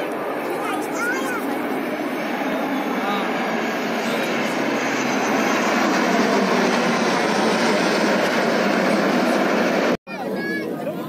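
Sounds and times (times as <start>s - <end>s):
aircraft engines roaring overhead: 0.0s - 11.0s.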